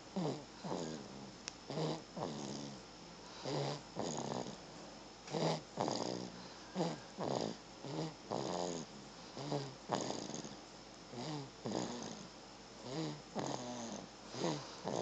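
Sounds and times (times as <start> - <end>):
short pitched snores: 0.2 - 2.8, 3.4 - 4.6, 5.3 - 15.0.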